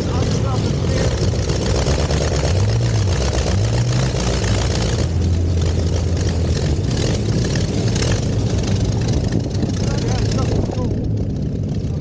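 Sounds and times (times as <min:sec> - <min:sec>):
aero engine idling: 0:00.0 - 0:12.0.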